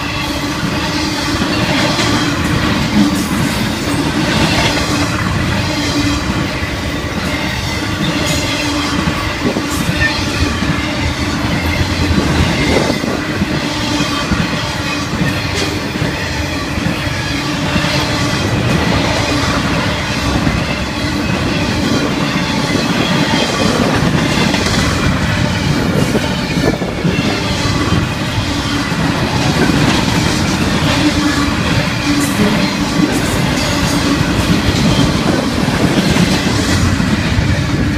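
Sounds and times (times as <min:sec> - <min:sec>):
high wheel squeal: 0:00.0 - 0:37.9
train wheels rumbling on rail: 0:00.0 - 0:37.9.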